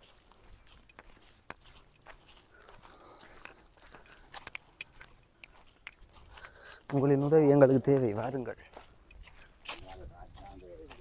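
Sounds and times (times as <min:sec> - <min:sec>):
footsteps on dirt track: 0:00.0 - 0:11.0.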